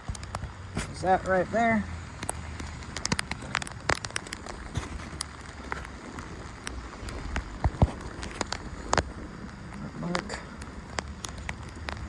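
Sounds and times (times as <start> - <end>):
rain drops tapping on surfaces: 0.0 - 12.0
steady rain patter: 0.0 - 12.0.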